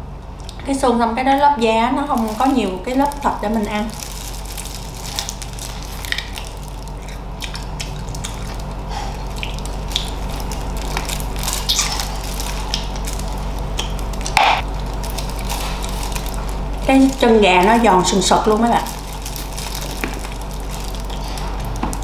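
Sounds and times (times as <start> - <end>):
steady low hum: 0.0 - 22.0
wet chewing and crunching: 2.0 - 22.0.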